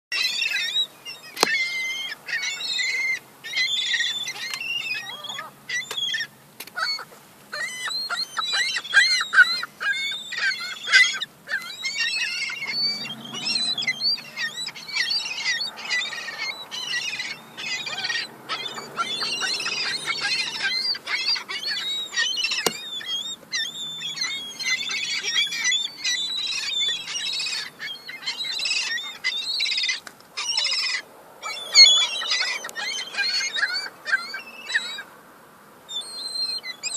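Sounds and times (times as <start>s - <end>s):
young gulls calling: 0.1s - 35.2s, 35.8s - 36.9s.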